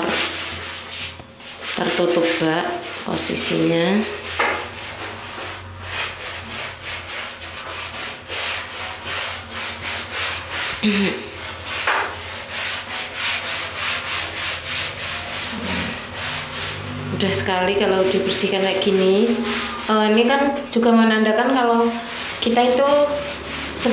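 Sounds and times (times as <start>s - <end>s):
brush scrubbing tiled floor: 0.0s - 23.9s.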